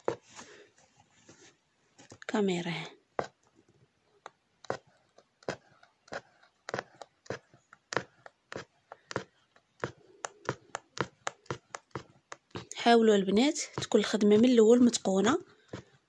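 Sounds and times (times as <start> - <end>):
punch needle clicking through fabric: 3.1 - 16.0.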